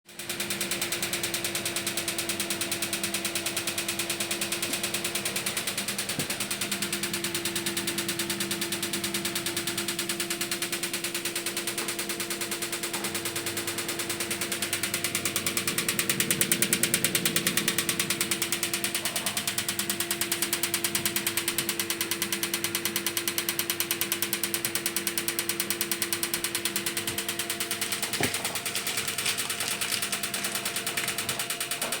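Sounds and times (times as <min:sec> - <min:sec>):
washing machine motor hum: 0:00.1 - 0:32.0.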